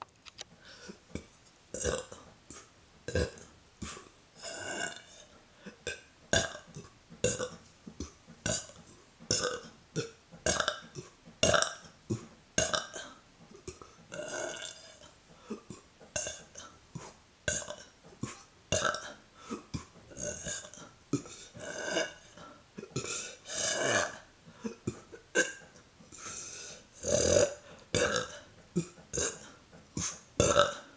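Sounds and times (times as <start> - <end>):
woman burping: 1.1 - 2.3, 3.1 - 5.2, 5.8 - 18.0, 18.7 - 26.4, 27.0 - 30.9.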